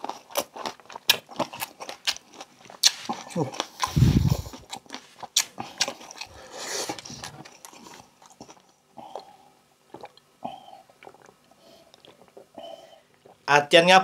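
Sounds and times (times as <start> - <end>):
man chewing: 0.0 - 13.4.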